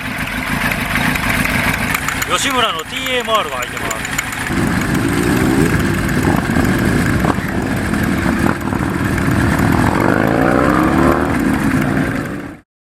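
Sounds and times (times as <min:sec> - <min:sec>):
motorcycle engine idling loudly: 0:00.0 - 0:12.6.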